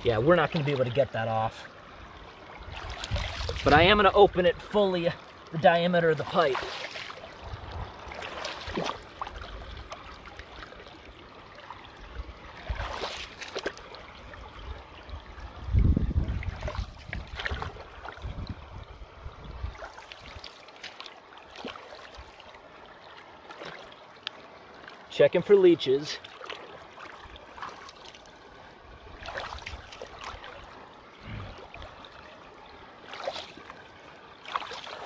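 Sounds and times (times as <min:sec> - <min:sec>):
water sloshing and splashing: 0:00.0 - 0:35.0.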